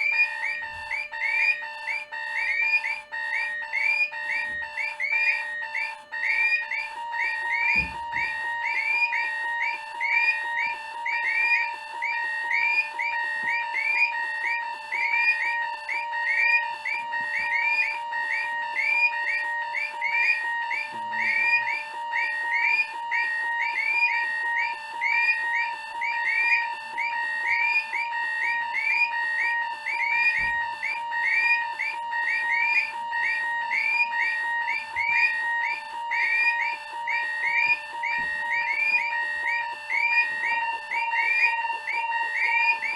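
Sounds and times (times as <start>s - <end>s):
alarm clocks beeping and buzzing: 0.0s - 42.9s.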